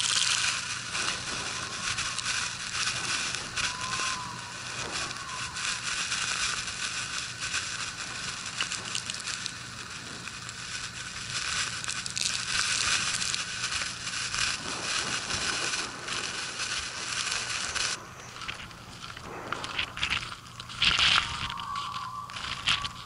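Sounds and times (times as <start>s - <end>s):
blizzard wind driving snow: 0.0s - 23.0s.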